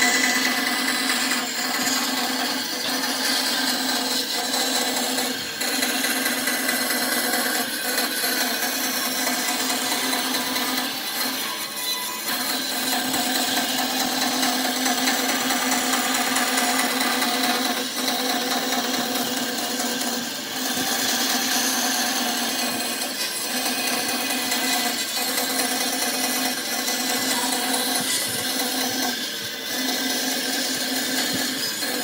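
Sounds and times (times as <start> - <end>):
turning tool cutting wood: 0.0 - 32.0
wood lathe running: 0.0 - 32.0.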